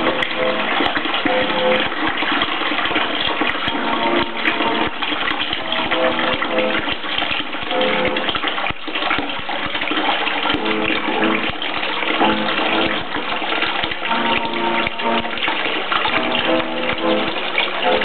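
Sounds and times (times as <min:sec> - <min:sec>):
water gurgling: 0:00.0 - 0:18.0
water splashing from pipe: 0:00.0 - 0:18.0.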